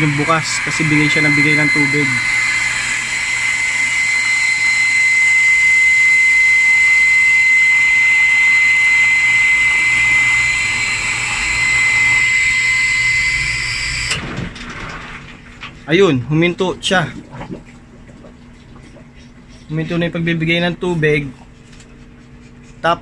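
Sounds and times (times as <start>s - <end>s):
water pump whining: 0.0s - 23.0s.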